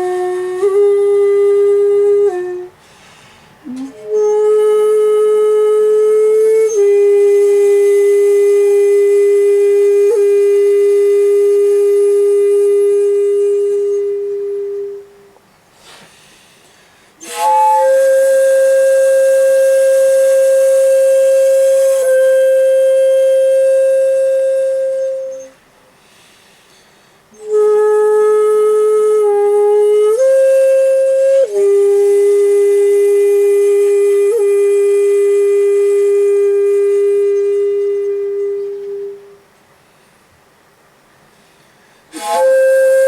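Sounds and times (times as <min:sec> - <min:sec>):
shakuhachi long held notes: 0:00.0 - 0:02.9, 0:03.6 - 0:15.5, 0:17.2 - 0:25.8, 0:27.2 - 0:39.6, 0:42.1 - 0:43.0.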